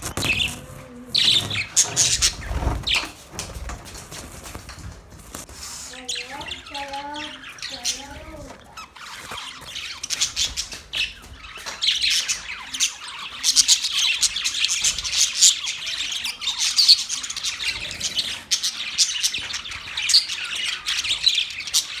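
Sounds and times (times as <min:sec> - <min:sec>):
budgerigars chirping and squawking: 0:00.0 - 0:03.8, 0:05.4 - 0:22.0.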